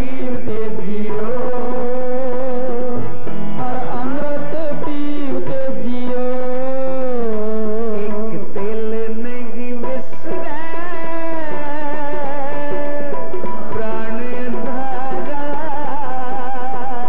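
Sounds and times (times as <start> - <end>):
devotional singing with gliding melody: 0.0 - 17.0
tabla: 0.0 - 17.0.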